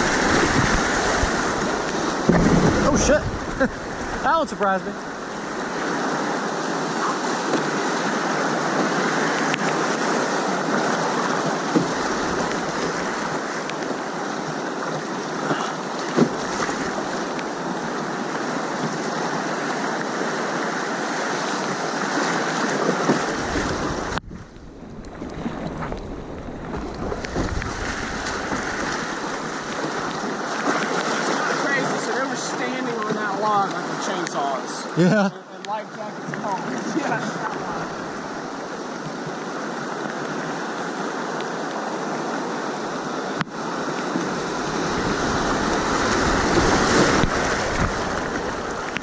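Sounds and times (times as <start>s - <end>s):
river whitewater rushing: 0.0s - 24.2s, 25.3s - 49.0s.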